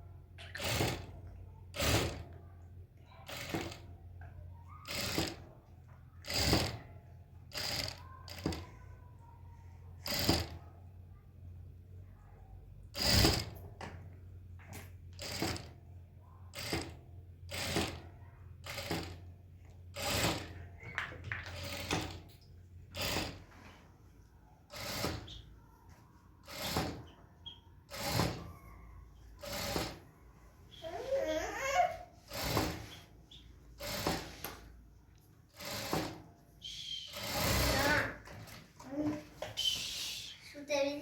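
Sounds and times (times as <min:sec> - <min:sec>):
sewing machine stitching: 0:00.2 - 0:10.8, 0:12.8 - 0:23.8, 0:24.6 - 0:39.2.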